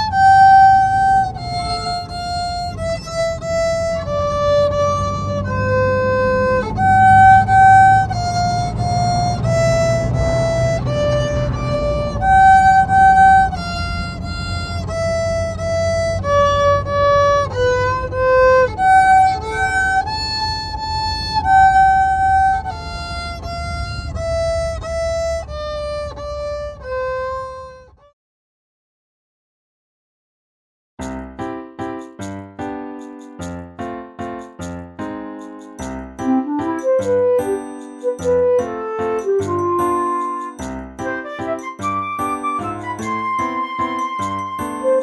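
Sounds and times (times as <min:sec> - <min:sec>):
violin melody: 0:00.0 - 0:28.1, 0:35.8 - 0:45.0.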